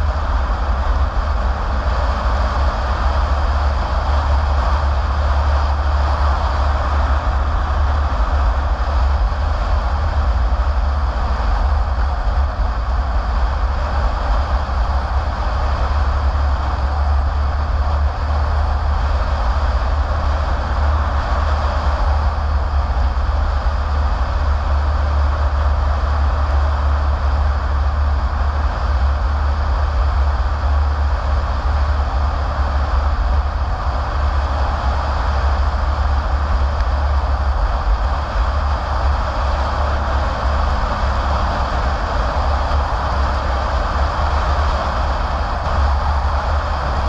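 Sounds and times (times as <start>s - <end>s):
car driving on wet road: 0.0s - 47.0s
wind: 0.0s - 47.0s.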